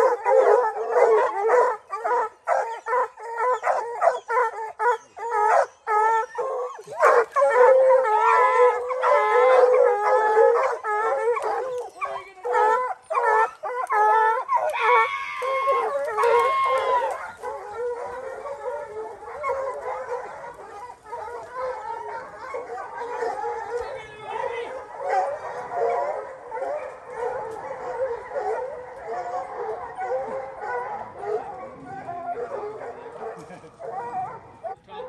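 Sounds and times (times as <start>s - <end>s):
hunting dogs baying: 0.0s - 35.0s.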